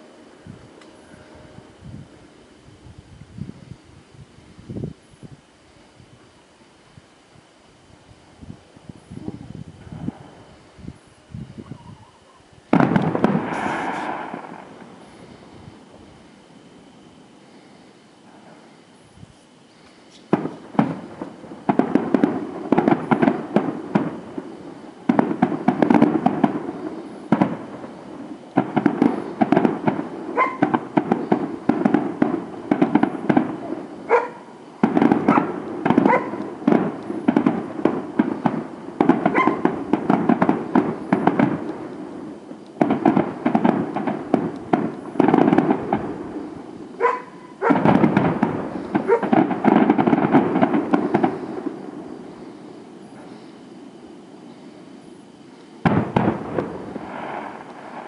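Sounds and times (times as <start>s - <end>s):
fireworks bangs and crackling: 8.2s - 58.0s.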